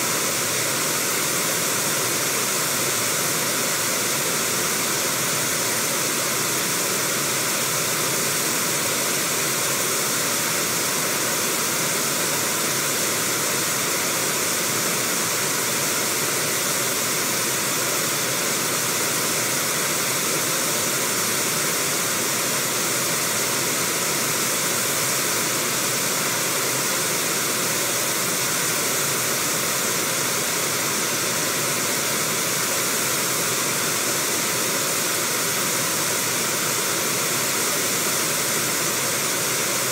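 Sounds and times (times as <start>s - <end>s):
river water over rapids: 0.0s - 39.9s.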